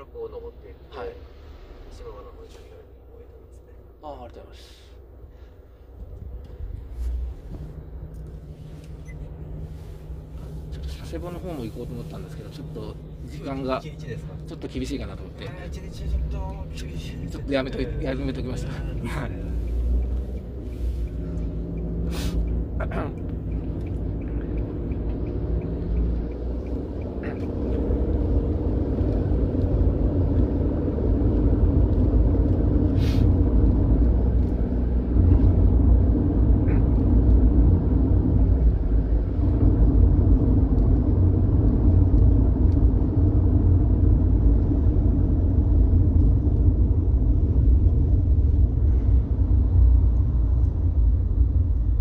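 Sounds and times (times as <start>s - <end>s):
van engine and tyre rumble: 0.0s - 52.0s.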